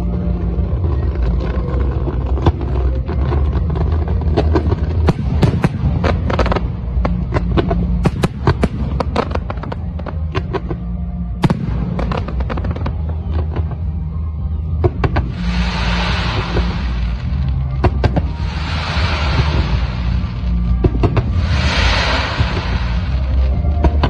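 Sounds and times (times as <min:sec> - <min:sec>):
fireworks bangs and crackles: 0:00.0 - 0:24.0
music: 0:00.0 - 0:24.0.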